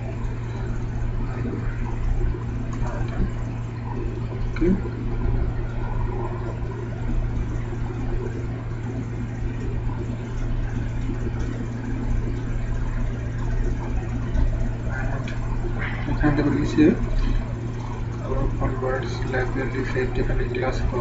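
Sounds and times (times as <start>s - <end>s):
continuous background noise: 0.0s - 21.0s
steady low hum: 0.0s - 21.0s.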